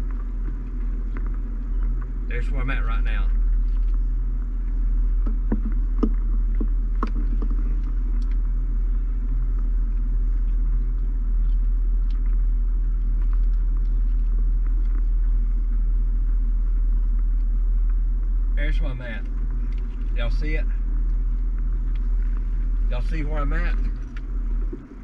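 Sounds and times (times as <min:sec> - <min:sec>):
car cabin rumble: 0:00.0 - 0:25.0.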